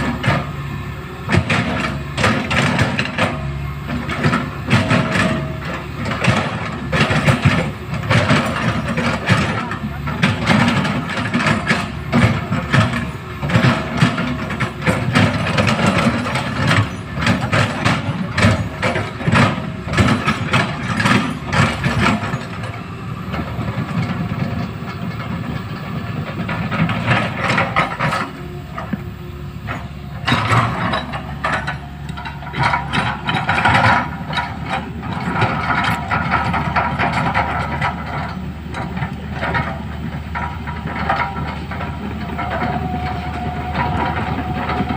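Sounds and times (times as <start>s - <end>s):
excavator diesel engine running: 0.0s - 44.9s
metallic clanks and knocks: 1.3s - 44.9s.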